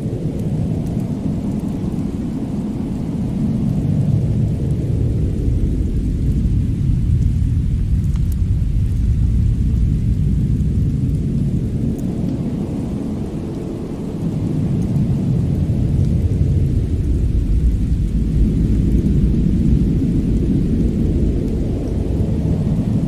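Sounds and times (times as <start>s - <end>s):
deep steady rumble: 0.0s - 23.0s
fire crackles: 0.0s - 23.0s.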